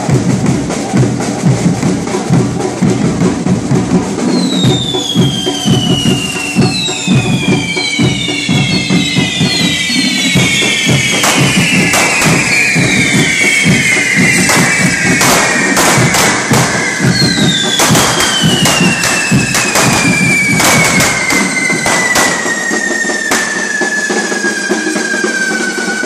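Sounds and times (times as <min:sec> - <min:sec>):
firework fountains hissing and whistling: 0:00.0 - 0:26.0
firework bangs: 0:03.0 - 0:26.0.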